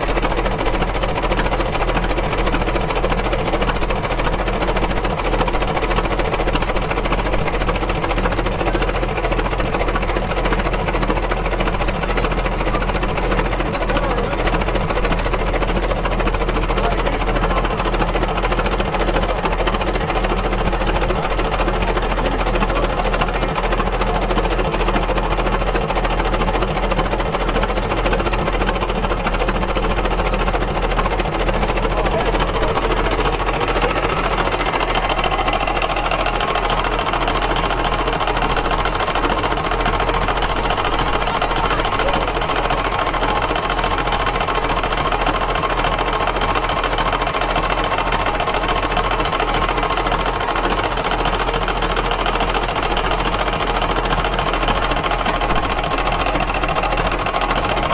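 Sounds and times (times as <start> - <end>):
engine clattering: 0.0 - 57.9.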